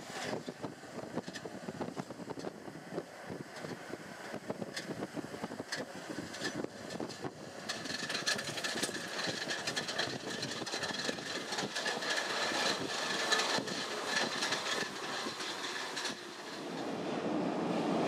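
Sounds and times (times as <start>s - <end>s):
train rattling: 0.0s - 17.2s.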